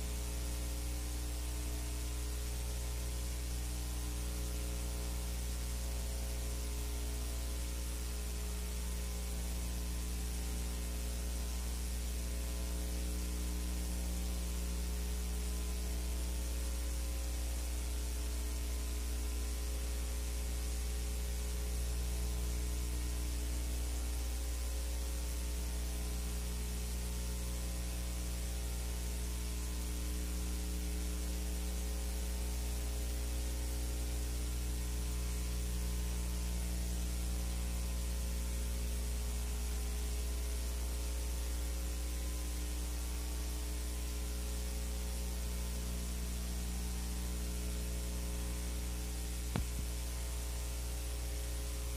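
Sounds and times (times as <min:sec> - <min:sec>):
constant hiss: 0:00.0 - 0:51.9
electrical mains hum: 0:00.0 - 0:51.9.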